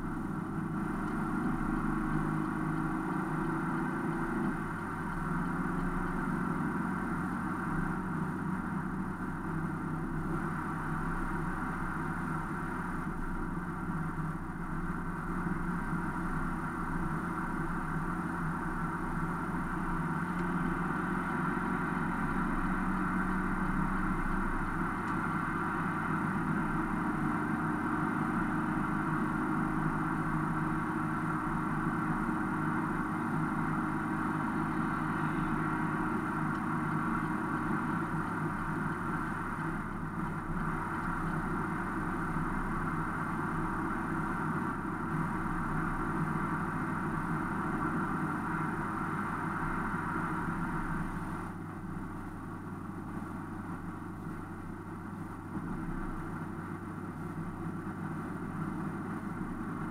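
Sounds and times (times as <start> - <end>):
car interior driving noise: 0.0 - 59.9.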